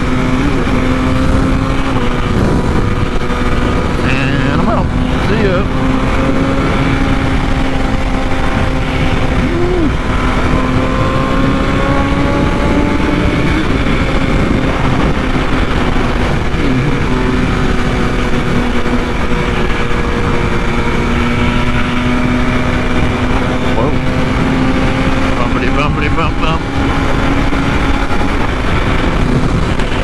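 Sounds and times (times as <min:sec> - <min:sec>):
motorcycle engine cruising: 0:00.0 - 0:30.0
wind rush on microphone: 0:00.0 - 0:30.0.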